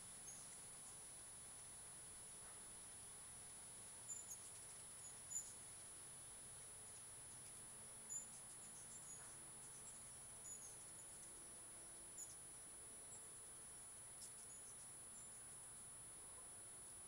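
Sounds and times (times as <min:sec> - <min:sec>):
hummingbirds chipping: 0:00.0 - 0:16.4
faint high whine: 0:00.0 - 0:17.0.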